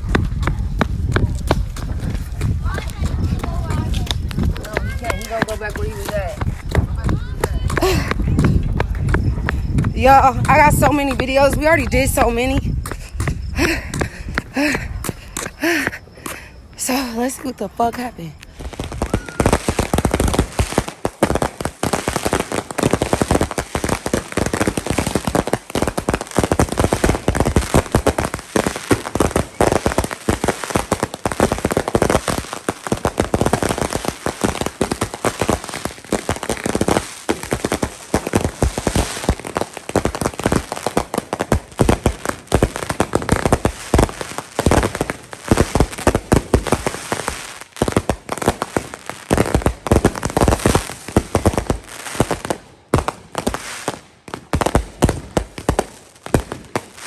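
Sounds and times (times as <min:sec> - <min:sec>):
fireworks popping and crackling: 0:00.0 - 0:57.0.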